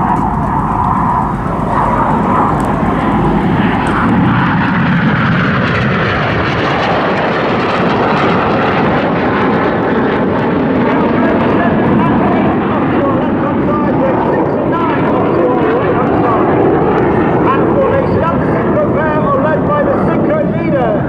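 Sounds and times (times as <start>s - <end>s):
jet engines flying overhead: 0.0s - 21.0s.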